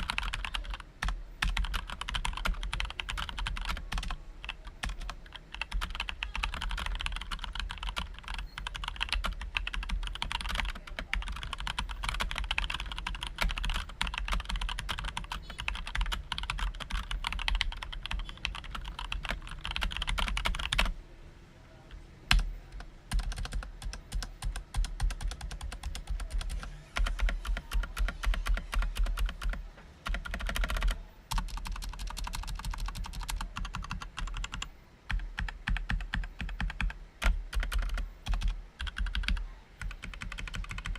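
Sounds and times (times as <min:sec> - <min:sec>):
fast typing on mechanical keyboard: 0:00.0 - 0:20.9, 0:22.3 - 0:40.9.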